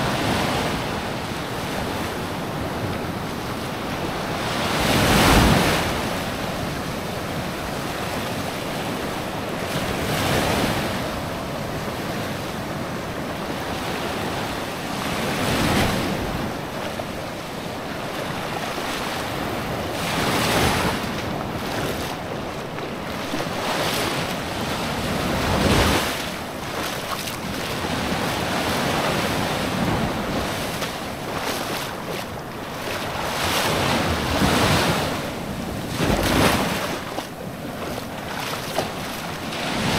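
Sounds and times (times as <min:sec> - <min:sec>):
waves breaking on a beach: 0:00.0 - 0:39.9
wind on microphone: 0:00.0 - 0:39.9.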